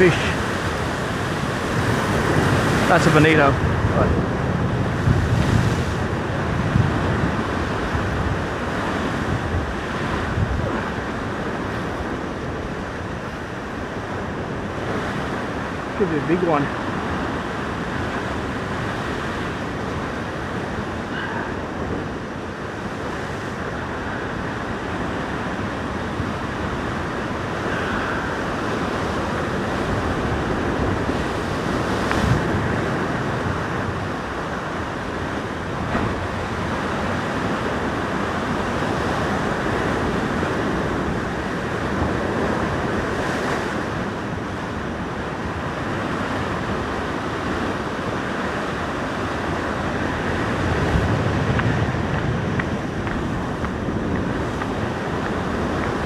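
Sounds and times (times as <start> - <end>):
ocean surf breaking on rocks: 0.0 - 56.0
wind buffeting microphone: 0.0 - 56.0.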